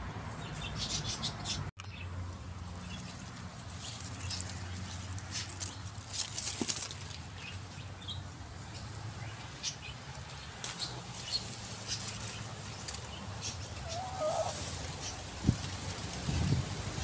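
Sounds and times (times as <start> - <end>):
rustles among leafy plants: 1.9 - 17.0.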